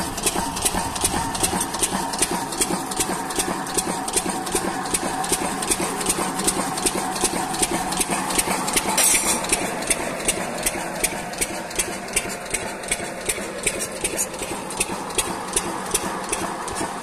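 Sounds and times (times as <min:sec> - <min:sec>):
diesel engine running at high speed: 0:00.0 - 0:17.0
sharp rhythmic knocks: 0:00.0 - 0:17.0.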